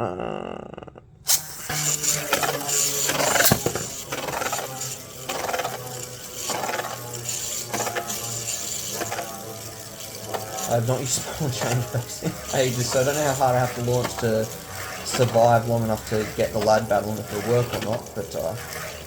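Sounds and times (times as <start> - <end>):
spinning tops rattling and clashing: 1.3 - 19.0
spinning tops whirring: 1.3 - 19.0
spinning tops landing clack: 1.7 - 19.0.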